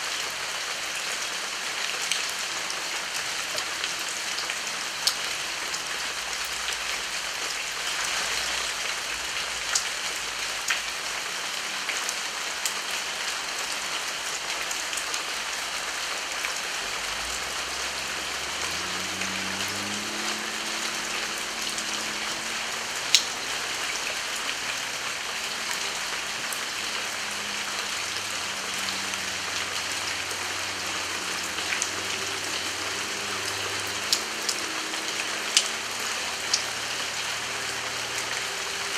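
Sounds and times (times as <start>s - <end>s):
heavy rain falling: 0.0s - 38.9s
raindrops ticking close by: 0.1s - 38.9s.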